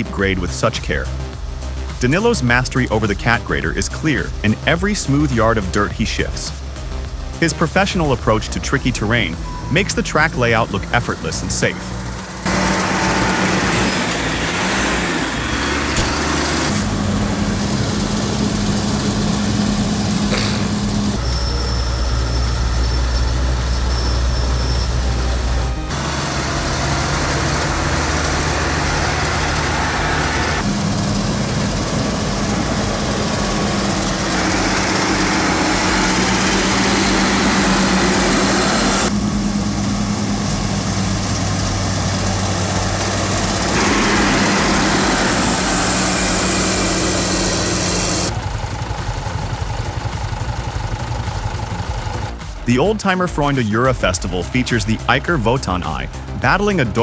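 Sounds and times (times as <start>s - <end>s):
heavy machinery diesel engines: 0.0s - 53.0s.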